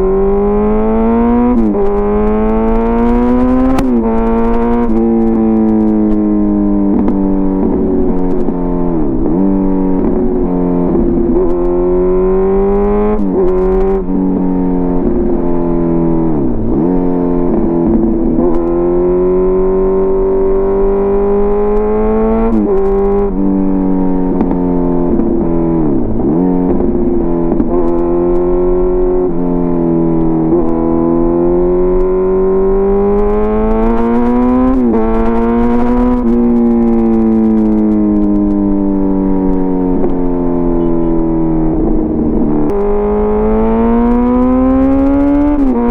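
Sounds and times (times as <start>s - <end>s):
motorcycle engine running loud: 0.0s - 45.9s.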